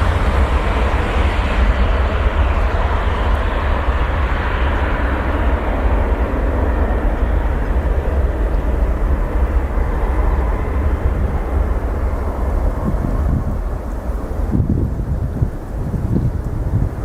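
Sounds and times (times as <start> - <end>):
jet airliner engines running: 0.0 - 17.0.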